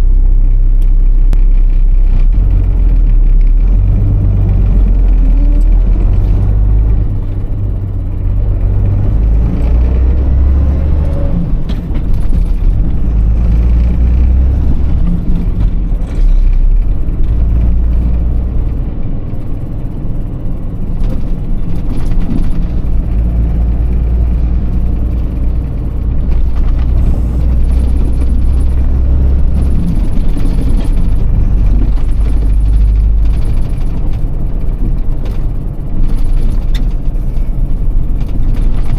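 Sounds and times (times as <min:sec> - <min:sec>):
truck diesel engine rumbling: 0:00.0 - 0:38.9.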